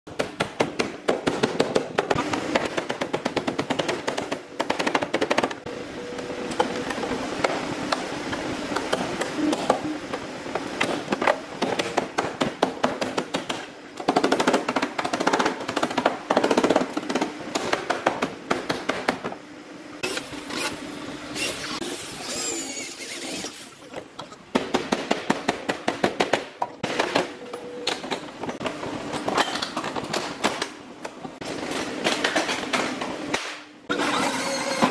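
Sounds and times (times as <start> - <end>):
steady hiss and hum: 0.6 - 33.9.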